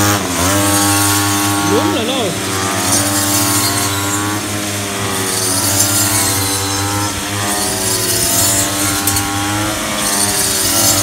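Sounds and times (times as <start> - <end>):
blade cutting rice stalks: 0.0 - 11.0
brush cutter engine running: 0.0 - 11.0.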